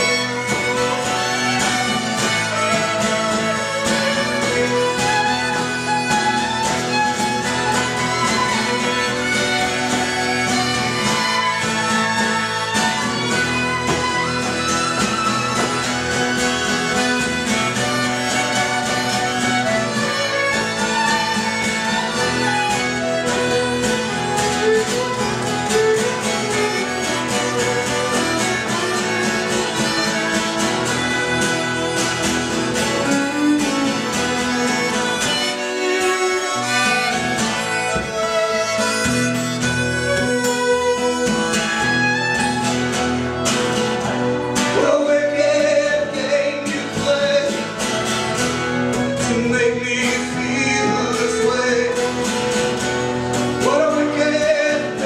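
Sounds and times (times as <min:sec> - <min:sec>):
harmonica melody: 0:00.0 - 0:55.0
strummed acoustic guitar: 0:00.0 - 0:55.0
violin: 0:00.0 - 0:55.0.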